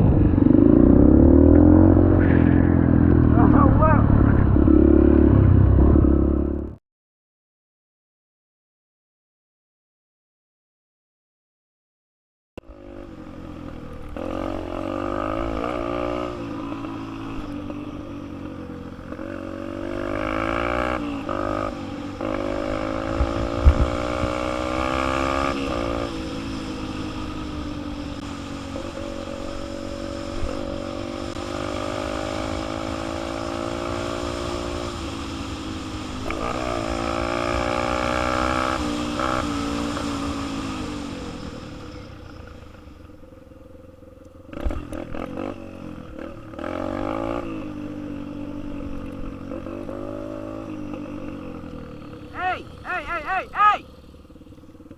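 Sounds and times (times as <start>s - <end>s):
dirt bike engine revving: 0.0s - 6.8s, 12.6s - 42.9s, 44.5s - 54.9s.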